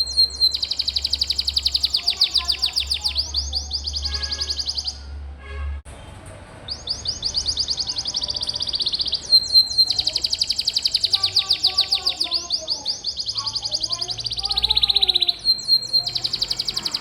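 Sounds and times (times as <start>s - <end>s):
canary singing rolling trills: 0.0s - 5.3s, 6.6s - 17.0s.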